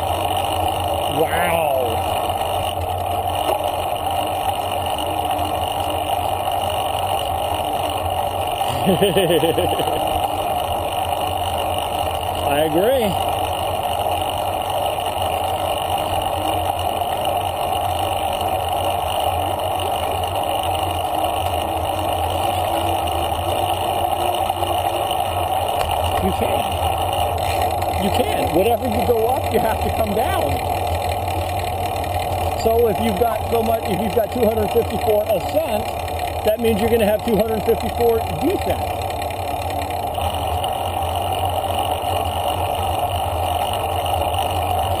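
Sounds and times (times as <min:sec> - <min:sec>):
bicycle tyres on asphalt: 0:00.0 - 0:08.7, 0:09.8 - 0:45.0.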